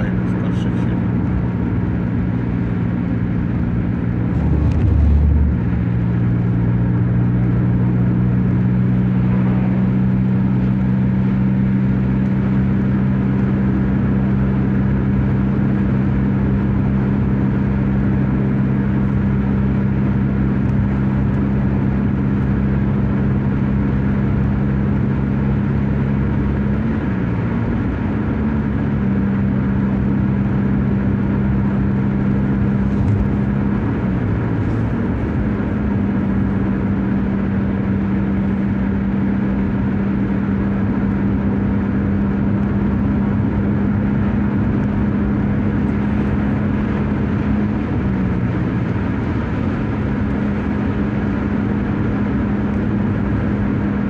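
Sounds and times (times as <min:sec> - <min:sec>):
car engine and road drone: 0:00.0 - 0:54.0.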